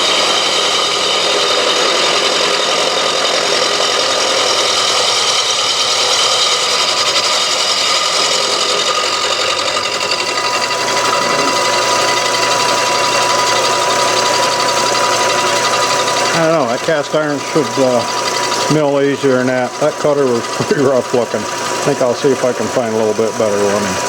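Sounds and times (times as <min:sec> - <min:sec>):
milling machine cutting chatter: 0:00.0 - 0:24.0
thin machine whine: 0:00.0 - 0:24.0.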